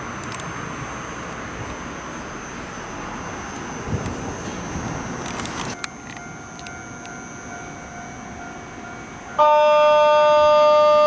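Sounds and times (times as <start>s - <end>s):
platform ambience: 0.0s - 11.0s
station departure buzzer: 1.9s - 11.0s.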